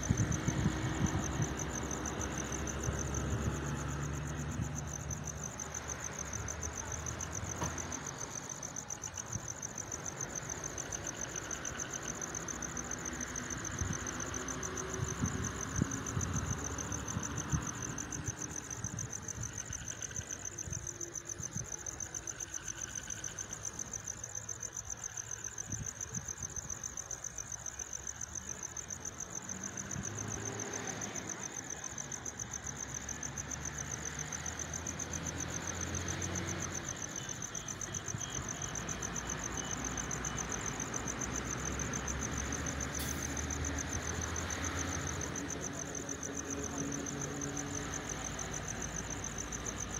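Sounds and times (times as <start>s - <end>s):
insects trilling: 0.1s - 49.9s.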